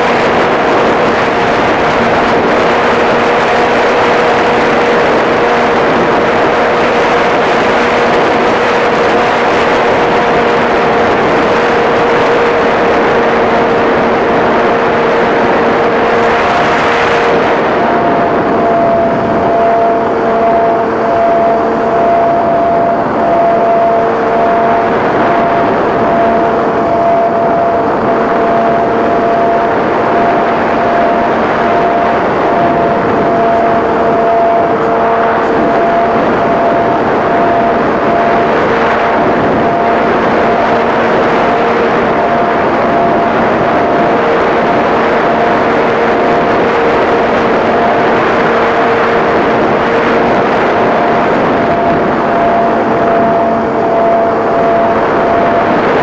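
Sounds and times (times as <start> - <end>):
airflow rushing over microphone: 0.0 - 56.0
electric motor and propeller whine: 0.0 - 56.0.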